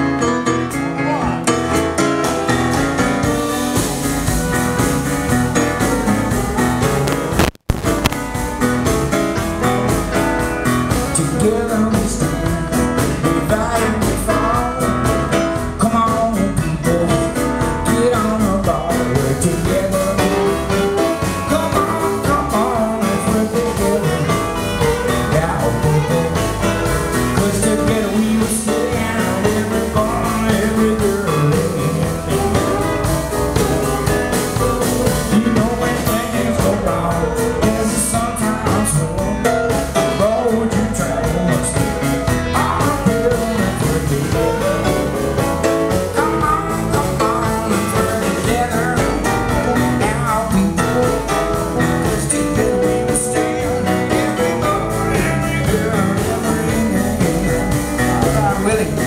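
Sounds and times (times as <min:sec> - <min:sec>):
drum kit: 0:00.0 - 0:59.0
guitar: 0:00.0 - 0:59.0
keyboard: 0:00.0 - 0:59.0
man singing: 0:02.9 - 0:59.0.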